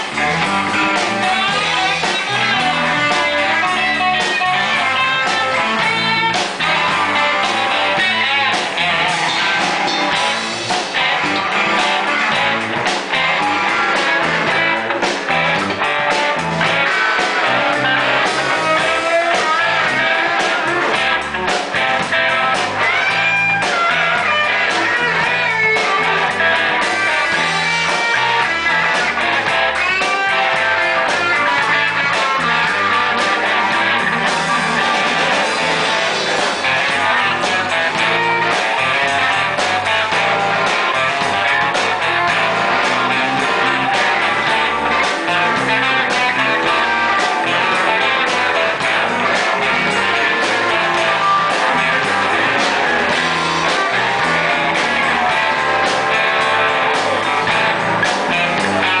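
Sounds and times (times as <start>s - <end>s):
electric bass playing: 0.0s - 59.0s
electric guitars playing: 0.0s - 59.0s
guitar bent notes: 0.0s - 59.0s.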